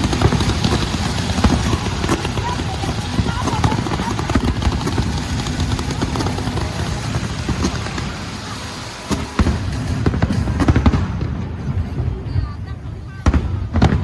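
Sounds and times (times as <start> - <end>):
fireworks bangs and crackles: 0.0 - 14.0
fireworks rumble: 0.0 - 14.0.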